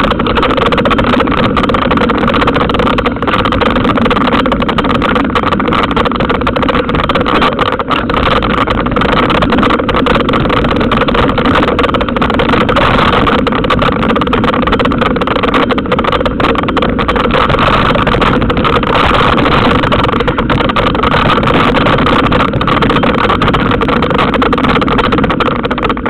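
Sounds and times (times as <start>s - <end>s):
bicycle rattling on gravel: 0.0s - 26.0s
wind rushing on microphone: 0.0s - 26.0s.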